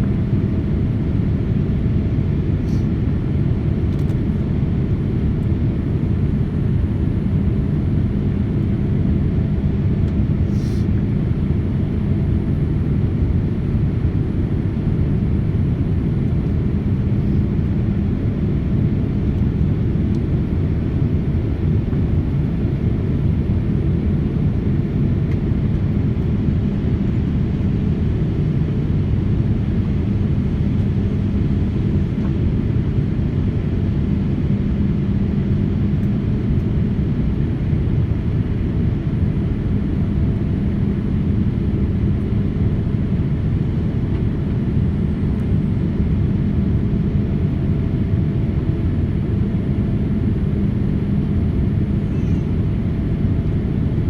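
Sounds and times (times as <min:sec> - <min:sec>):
airliner engine rumble: 0:00.0 - 0:54.0
constant hum: 0:00.0 - 0:54.0.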